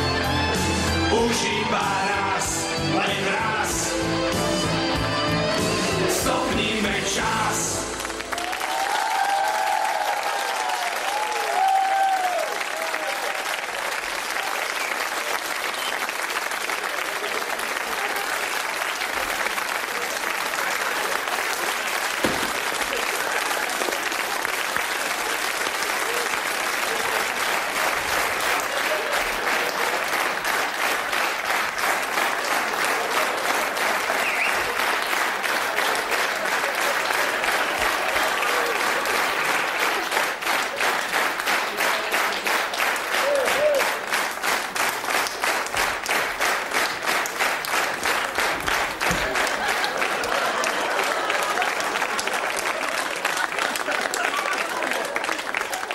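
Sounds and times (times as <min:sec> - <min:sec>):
studio audience applauding: 0:05.3 - 0:55.9.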